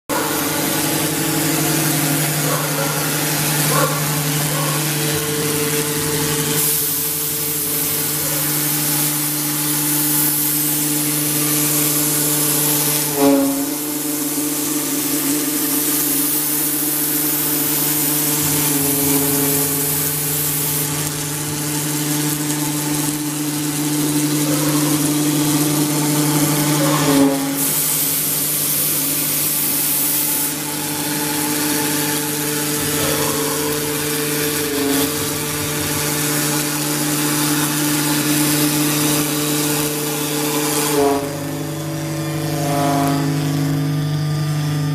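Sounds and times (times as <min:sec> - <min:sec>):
router spindle hum: 0:00.1 - 0:44.9
bit cutting foam hiss: 0:00.2 - 0:41.8.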